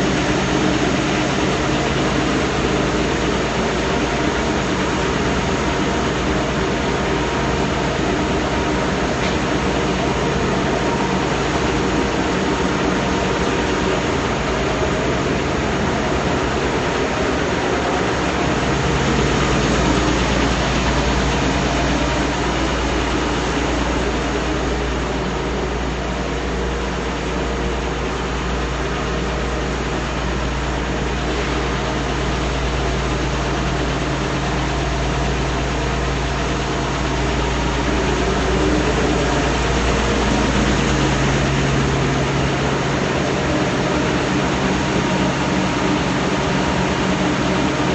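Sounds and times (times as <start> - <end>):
industrial sander humming: 0.0 - 29.5, 34.0 - 47.9.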